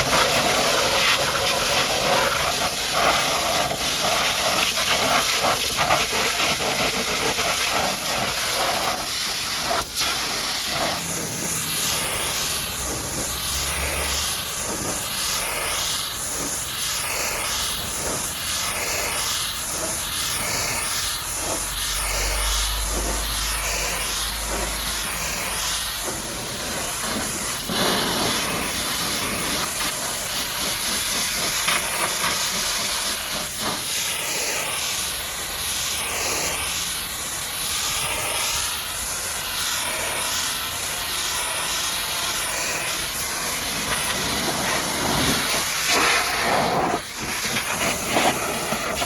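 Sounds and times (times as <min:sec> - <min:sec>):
pressure washer spraying water: 0:00.0 - 0:49.0.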